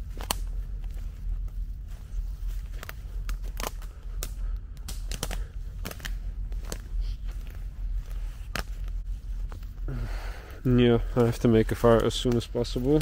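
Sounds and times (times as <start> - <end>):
footsteps crackling twigs underfoot: 0.0 - 13.0
low rumble: 0.0 - 13.0.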